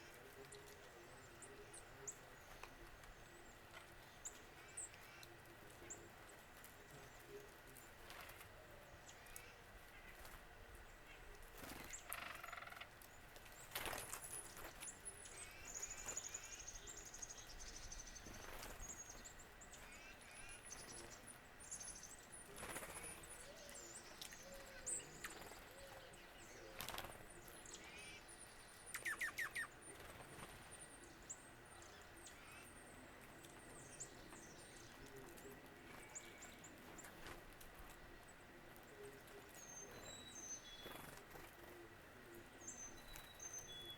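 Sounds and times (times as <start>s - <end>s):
songbirds chirping: 0.0s - 43.9s.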